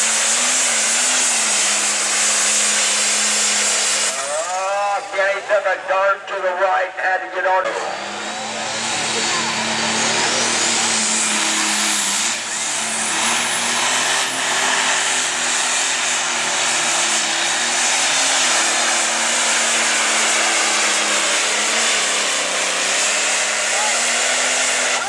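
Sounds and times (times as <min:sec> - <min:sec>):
diesel tractor engine at full throttle: 0:00.0 - 0:25.0.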